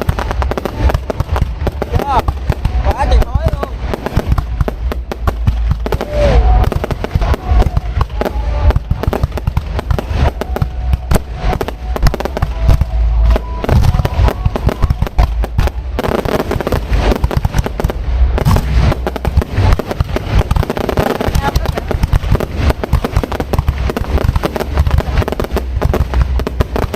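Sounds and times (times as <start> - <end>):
fireworks bursting and crackling: 0.0 - 26.9.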